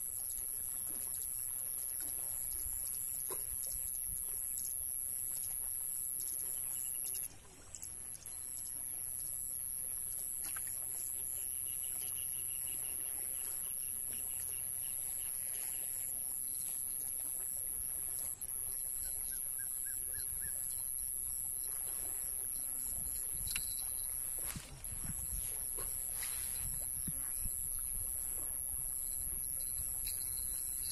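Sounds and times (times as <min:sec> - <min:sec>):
steady high-pitched whine: 0:03.7 - 0:30.9.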